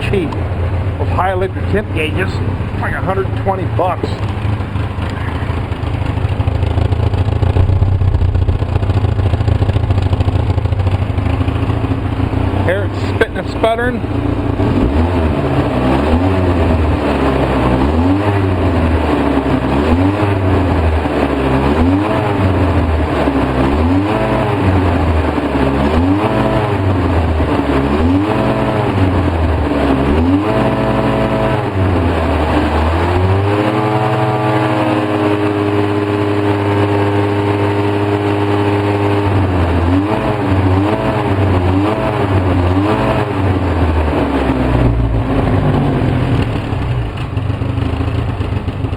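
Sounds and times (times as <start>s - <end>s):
quad engine rough idle: 0.0s - 48.9s.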